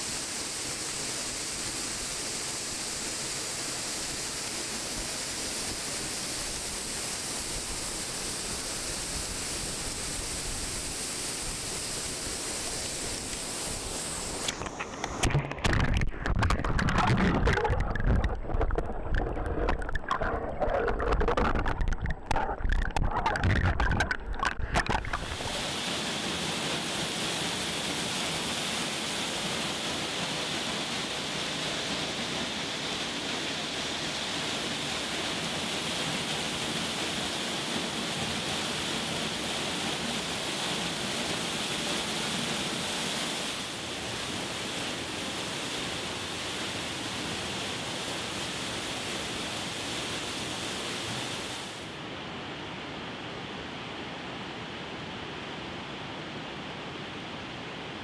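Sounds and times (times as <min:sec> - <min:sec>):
waterfall rushing: 0:00.0 - 0:52.0
underwater stream gurgling: 0:00.1 - 0:52.0.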